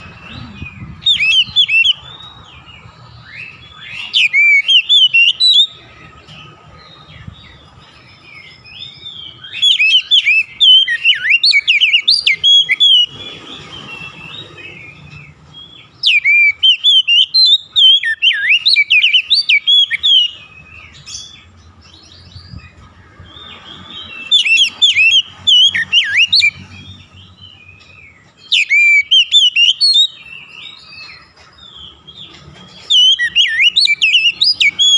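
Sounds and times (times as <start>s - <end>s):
bird singing whistled phrases: 0.0s - 2.4s, 3.2s - 5.8s, 8.2s - 21.4s, 23.7s - 31.9s, 32.8s - 34.9s.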